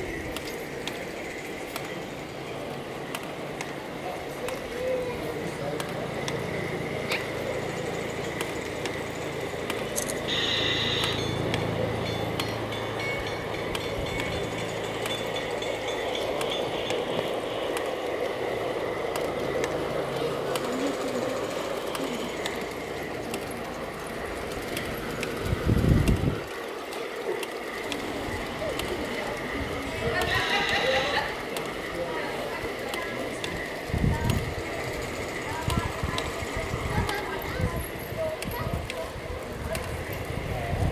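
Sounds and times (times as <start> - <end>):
wheels clicking on rails: 0.0 - 40.9.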